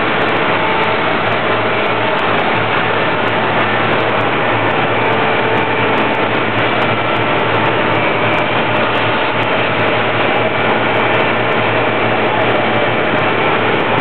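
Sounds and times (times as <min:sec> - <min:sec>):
diesel engine drone: 0:00.0 - 0:14.0.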